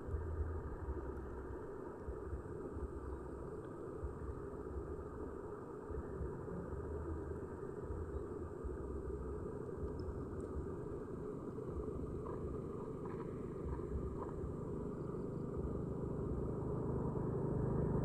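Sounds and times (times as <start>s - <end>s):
muffled underwater noise: 0.0s - 16.4s.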